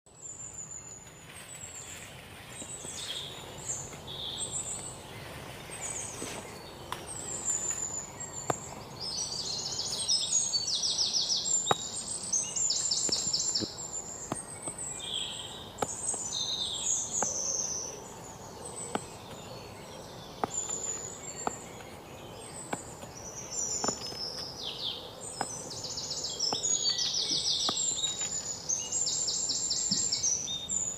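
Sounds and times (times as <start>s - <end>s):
small birds chirping and trilling: 0.1s - 30.9s.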